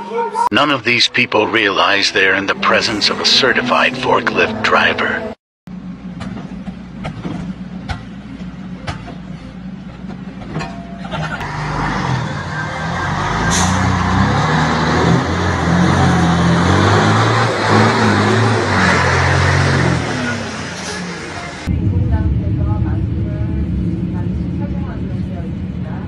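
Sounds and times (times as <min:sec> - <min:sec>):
low engine hum: 0:00.0 - 0:26.0
bus engine on rough road: 0:00.5 - 0:26.0.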